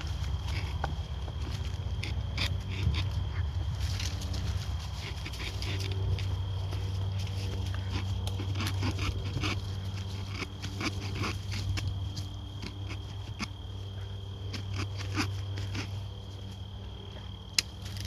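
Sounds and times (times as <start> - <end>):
dry sticks clicking and crackling: 0.0 - 16.6, 17.2 - 18.0
steady low hum: 0.0 - 18.0.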